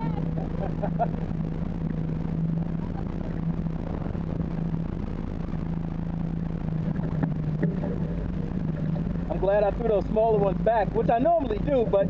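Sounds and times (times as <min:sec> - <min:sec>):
distant motor engine drone: 0:00.0 - 0:12.0.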